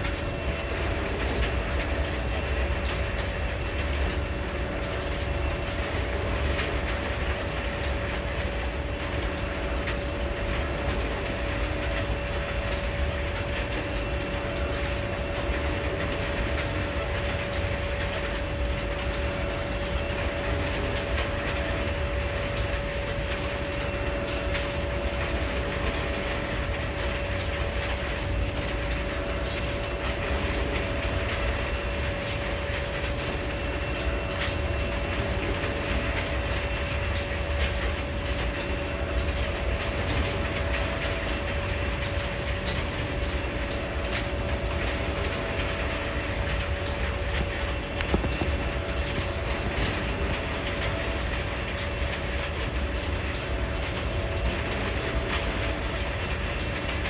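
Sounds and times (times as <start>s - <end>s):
clickety-clack over rail joints: 0.0s - 57.0s
freight cars rumbling on rails: 0.0s - 57.0s
steady whine: 0.0s - 57.0s.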